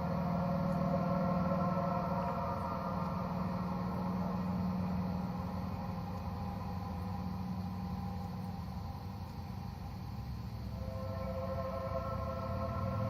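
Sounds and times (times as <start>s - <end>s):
held higher tones: 0.0s - 9.1s, 10.7s - 13.0s
low droning hum: 0.0s - 13.0s.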